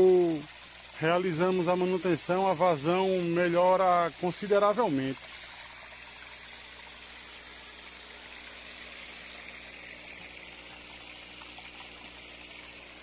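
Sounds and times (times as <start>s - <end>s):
water pouring into fish tank: 0.0s - 13.0s.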